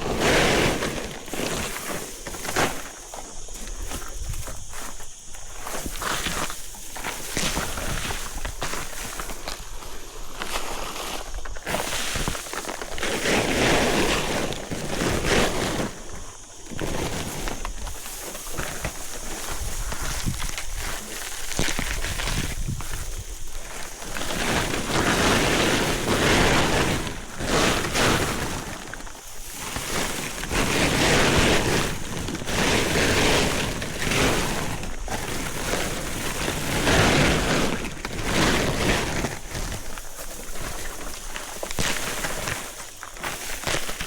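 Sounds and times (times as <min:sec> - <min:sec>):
leafy branches rustling and crackling: 0:00.0 - 0:44.0.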